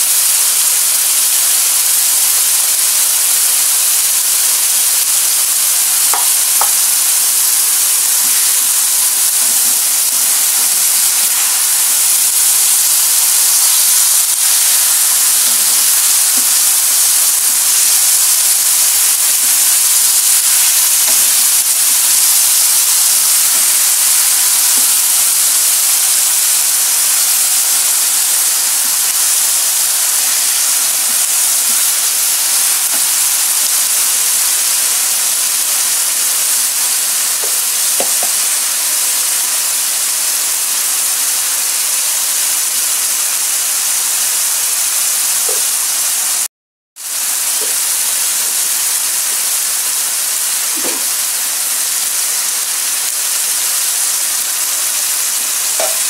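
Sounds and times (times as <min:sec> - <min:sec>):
sauce sizzling in a wok: 0:00.0 - 0:56.0.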